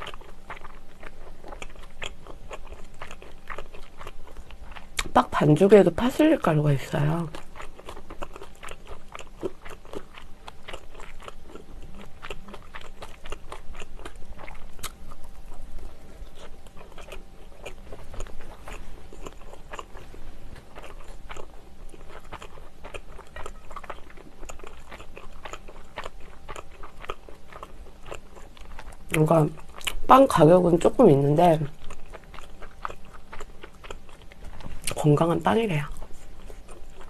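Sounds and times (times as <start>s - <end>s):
bread roll crust crunching when chewed: 0.0s - 37.0s.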